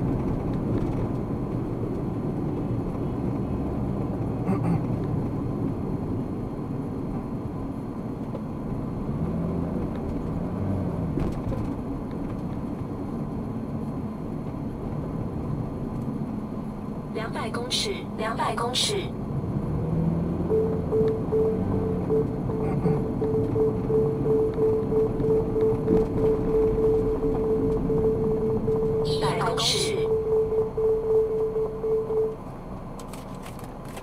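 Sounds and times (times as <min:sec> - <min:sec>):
car engine rumble: 0:00.0 - 0:34.0
road noise inside car: 0:00.0 - 0:34.0.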